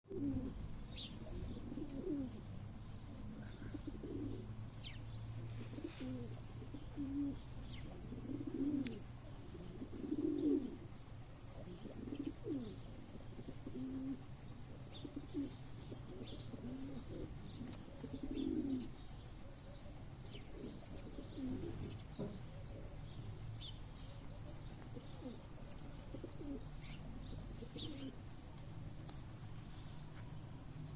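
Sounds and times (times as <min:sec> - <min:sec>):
pigeons cooing: 0:00.1 - 0:30.0.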